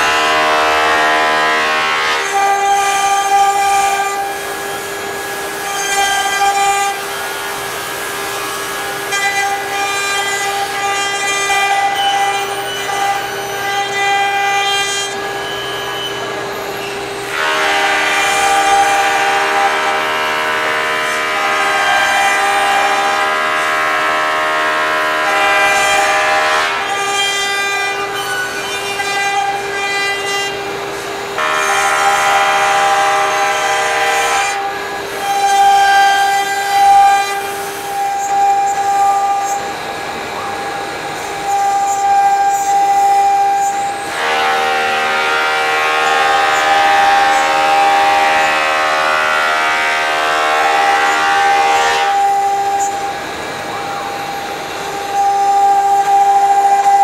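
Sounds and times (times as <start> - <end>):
cnc router motors whining: 0.0 - 57.0.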